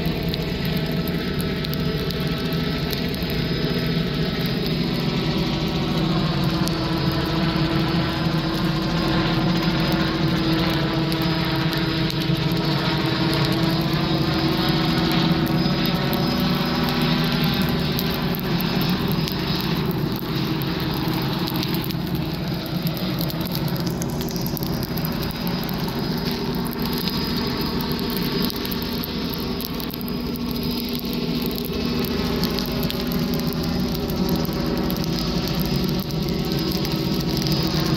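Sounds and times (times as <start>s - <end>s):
helicopter rotor drone: 0.0s - 37.9s.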